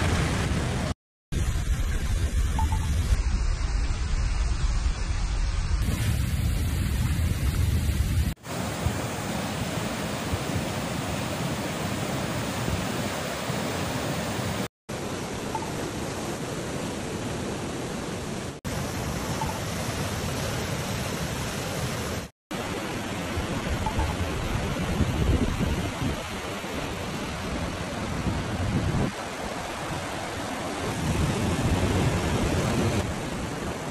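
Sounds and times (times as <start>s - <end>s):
floodwater rushing: 5.8s - 33.9s.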